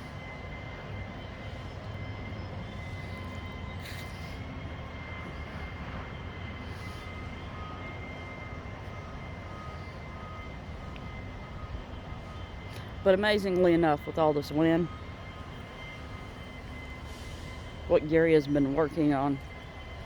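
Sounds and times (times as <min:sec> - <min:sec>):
distant mechanical drone: 0:00.0 - 0:20.0.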